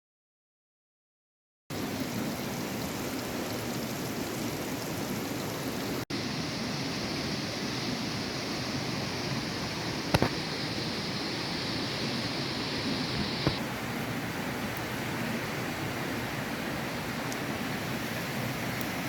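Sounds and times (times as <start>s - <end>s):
rushing water: 1.7s - 19.0s.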